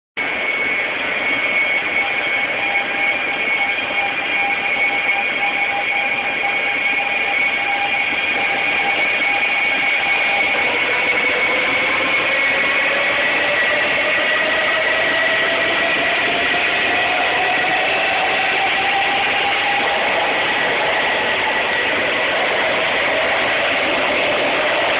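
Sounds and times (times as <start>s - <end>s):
high steady tones: 0.2s - 24.9s
rising train whine: 0.2s - 24.9s
train running noise: 0.2s - 24.9s.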